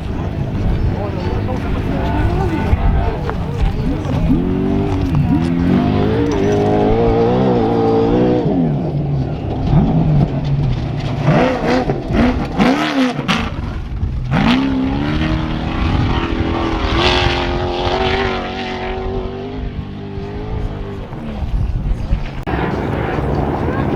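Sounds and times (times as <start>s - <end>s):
race truck engine revving: 0.0s - 21.2s, 22.0s - 23.9s.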